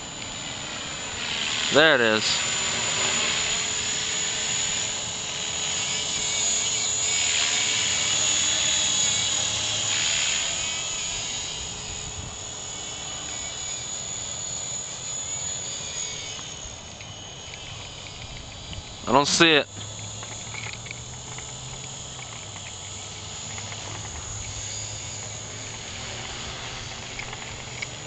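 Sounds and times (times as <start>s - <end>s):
rc helicopter motor whine: 0.0s - 28.0s.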